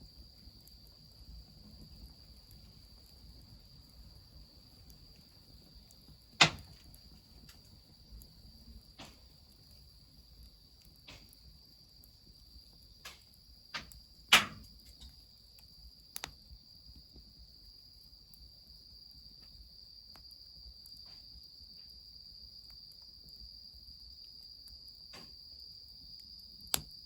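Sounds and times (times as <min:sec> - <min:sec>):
crickets trilling: 0:00.0 - 0:27.0
wood fire crackling: 0:00.0 - 0:27.0.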